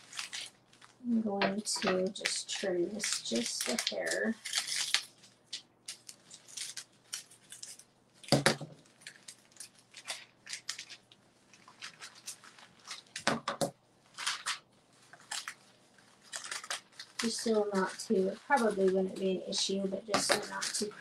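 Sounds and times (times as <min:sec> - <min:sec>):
paper rustling: 0:00.0 - 0:21.0.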